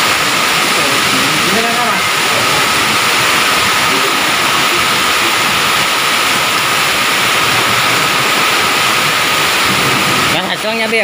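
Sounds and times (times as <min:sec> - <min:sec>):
torrential rain and hail: 0:00.0 - 0:11.0.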